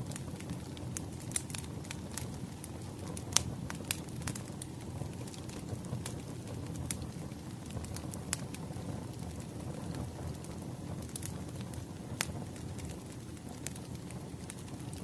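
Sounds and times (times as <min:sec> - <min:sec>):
wood fire burning: 0:00.0 - 0:15.0.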